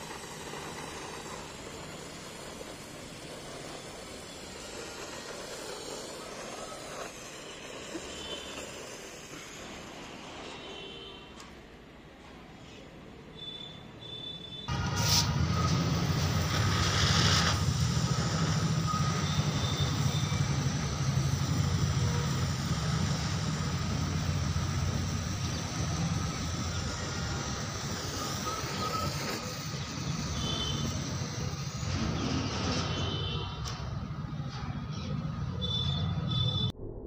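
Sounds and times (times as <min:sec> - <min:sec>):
sparkler firework hissing: 0:00.0 - 0:11.7, 0:14.7 - 0:34.2.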